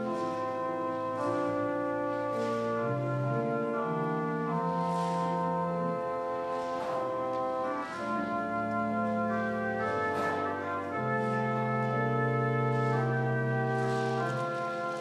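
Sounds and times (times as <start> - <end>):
church organ playing chords: 0.0 - 15.0.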